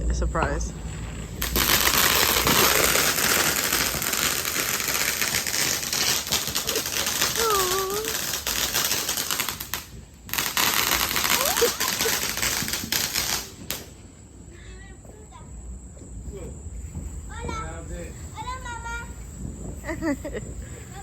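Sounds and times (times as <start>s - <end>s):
ground firework crackling: 0.0s - 21.0s.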